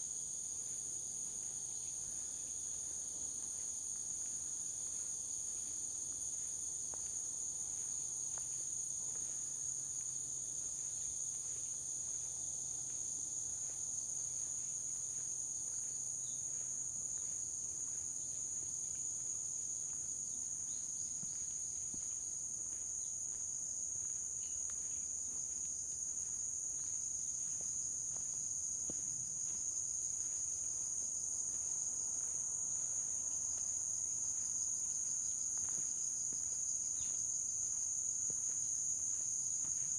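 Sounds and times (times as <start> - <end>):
high-pitched insect chorus: 0.0 - 39.9
soft footsteps on a trail: 0.0 - 39.9.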